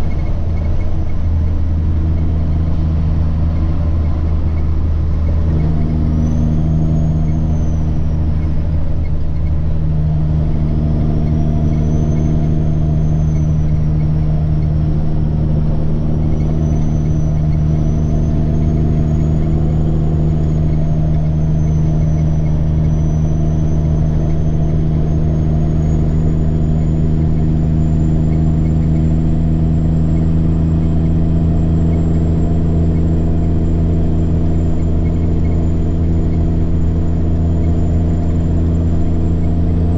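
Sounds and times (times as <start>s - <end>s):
diesel truck engine: 0.0s - 39.9s
turbocharger whine: 0.0s - 39.9s.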